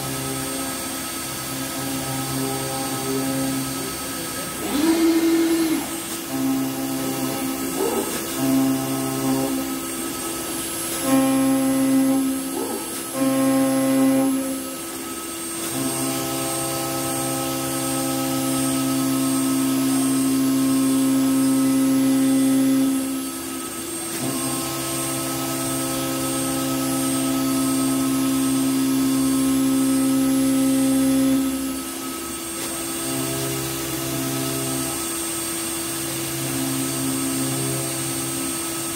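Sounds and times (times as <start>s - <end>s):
router spindle whining cutting wood: 0.0s - 38.9s.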